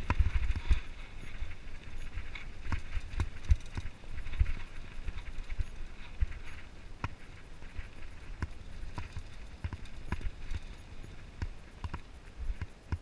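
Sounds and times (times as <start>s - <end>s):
mountain bike rattling on dirt trail: 0.0s - 13.0s.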